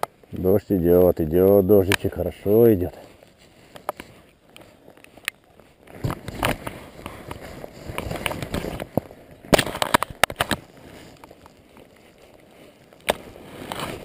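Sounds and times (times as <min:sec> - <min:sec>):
rain jacket rustling: 0:02.6 - 0:14.0.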